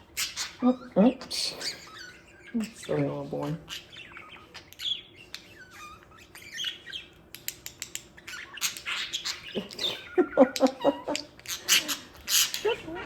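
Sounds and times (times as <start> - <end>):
budgerigar chattering and squawking: 0.0 - 13.0.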